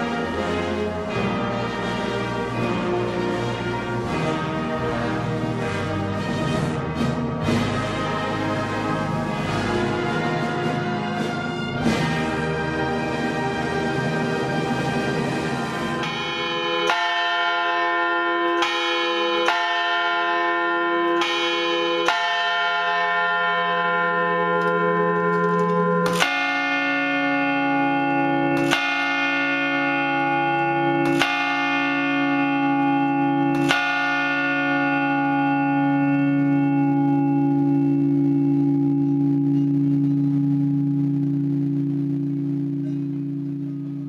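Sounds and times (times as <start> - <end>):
deeper church bell: 0.0 - 44.0
higher church bell: 0.0 - 44.0.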